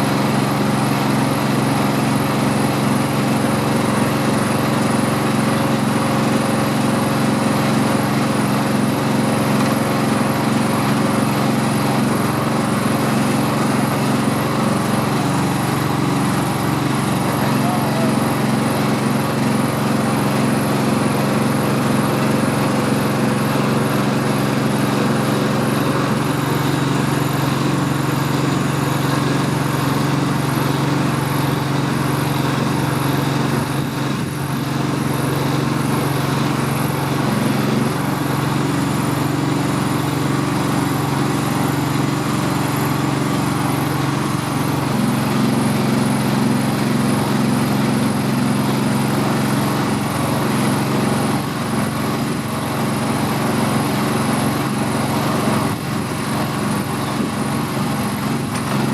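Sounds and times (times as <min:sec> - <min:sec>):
small gas engine running: 0:00.0 - 0:58.9.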